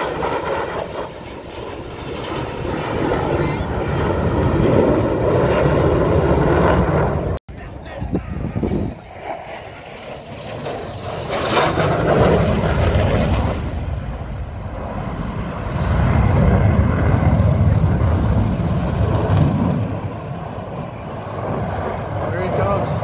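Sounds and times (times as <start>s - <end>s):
jet engine roaring past: 0.0s - 23.0s.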